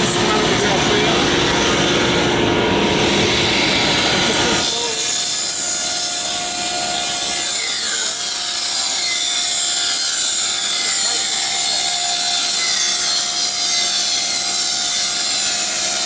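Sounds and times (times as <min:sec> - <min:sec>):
dust collector running: 0:00.0 - 0:16.0
table saw ripping a board: 0:00.0 - 0:16.0.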